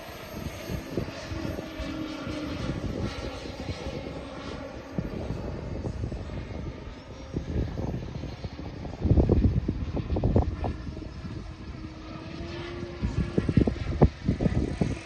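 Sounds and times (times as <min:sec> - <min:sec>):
model turboprop engines whirring: 0:00.0 - 0:15.0.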